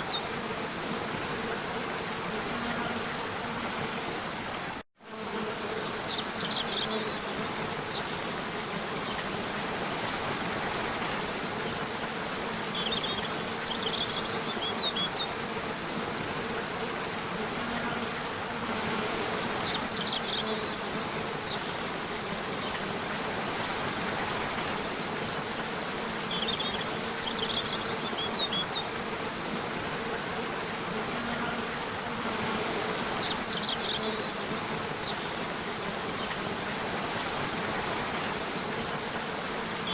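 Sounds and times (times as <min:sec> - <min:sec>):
insect buzz: 0:00.0 - 0:39.9.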